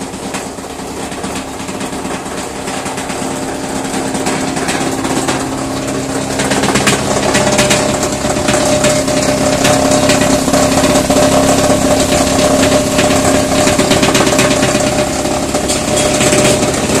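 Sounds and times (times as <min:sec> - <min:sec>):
plastic crusher running: 0:00.0 - 0:17.0
rattle of crushed plastic pieces: 0:00.1 - 0:17.0.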